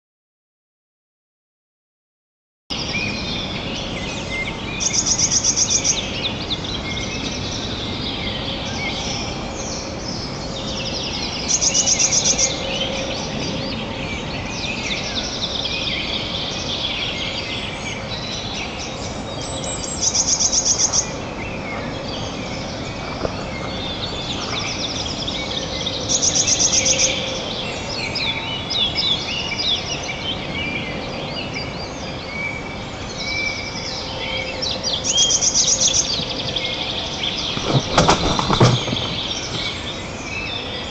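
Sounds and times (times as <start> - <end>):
songbirds singing: 2.7 - 40.9.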